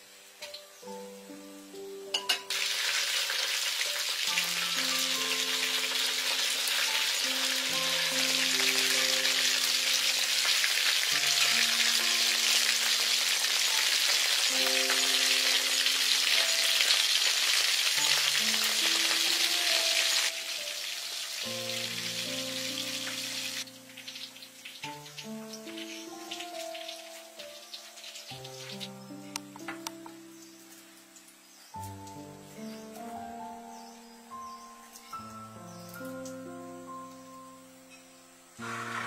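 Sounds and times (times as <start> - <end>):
food frying sizzle: 0.0 - 33.0, 38.6 - 39.0
slow background music: 0.0 - 39.0.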